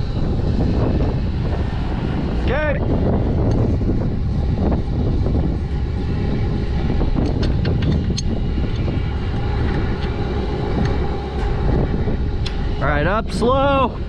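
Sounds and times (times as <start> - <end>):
engine low rumble: 0.0 - 14.0
faint steady whine: 0.0 - 14.0.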